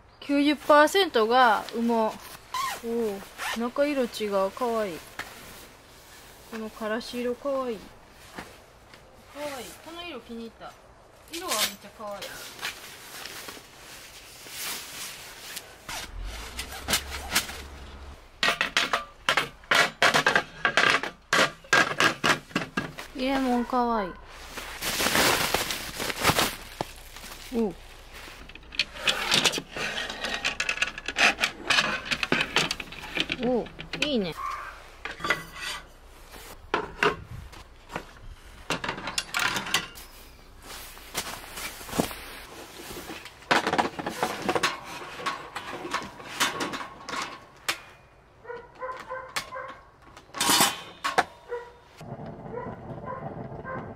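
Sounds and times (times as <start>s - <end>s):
rubbing and handling noise: 0.5s - 10.3s, 11.4s - 47.6s.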